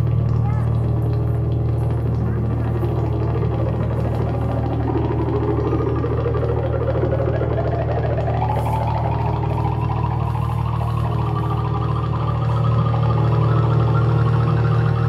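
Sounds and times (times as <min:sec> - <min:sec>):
electronic music drone: 0:00.0 - 0:15.0.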